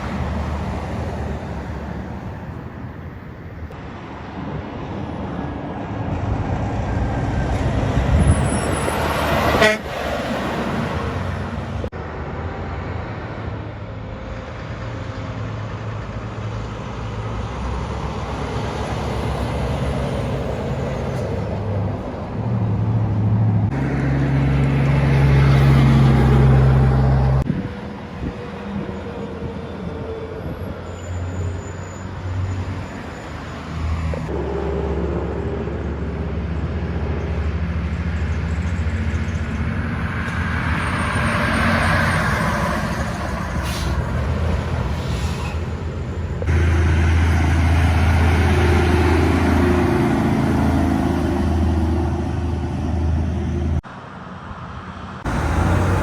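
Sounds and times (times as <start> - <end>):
diesel trucks driving by: 0.0 - 56.0.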